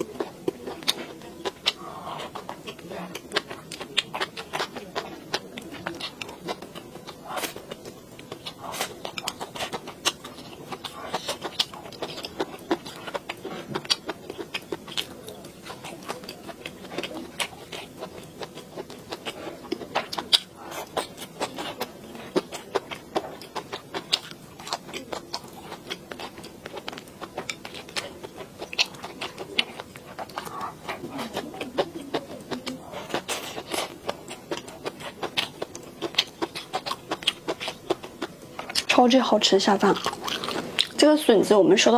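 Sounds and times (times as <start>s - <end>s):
wet chewing and crunching: 0.0s - 41.9s.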